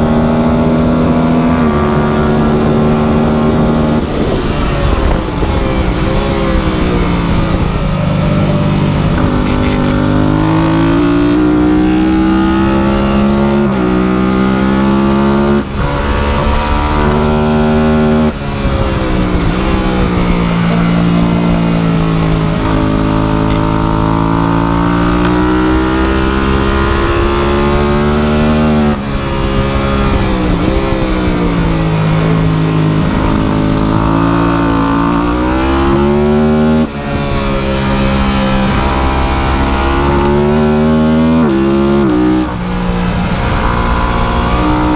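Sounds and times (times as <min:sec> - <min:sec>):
engine running hard: 0:00.0 - 0:44.9.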